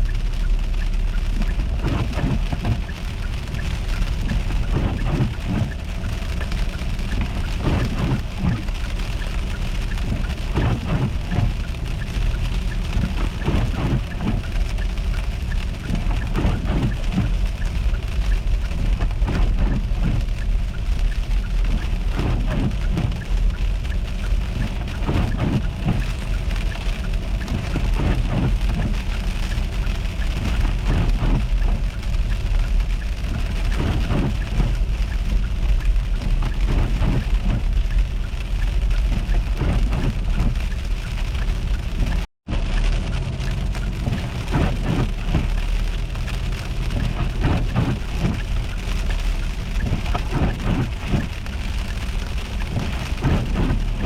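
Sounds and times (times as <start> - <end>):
constant low rumble: 0.0 - 54.0
freezing rain and sleet pattering: 0.0 - 54.0.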